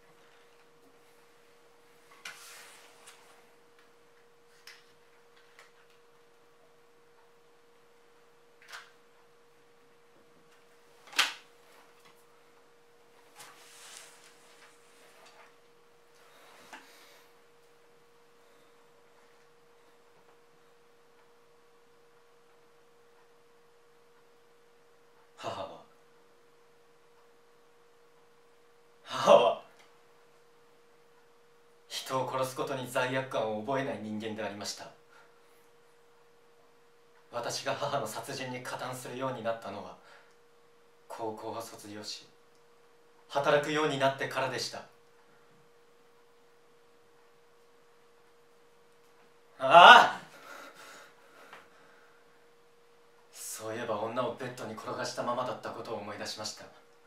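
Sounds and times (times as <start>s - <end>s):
steady faint hum: 0.0s - 57.0s.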